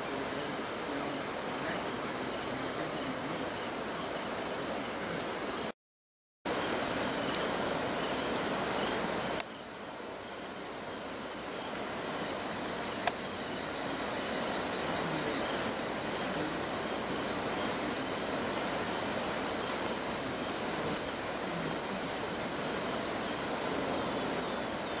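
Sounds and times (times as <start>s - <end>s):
insects trilling: 0.0s - 5.8s, 6.5s - 25.0s.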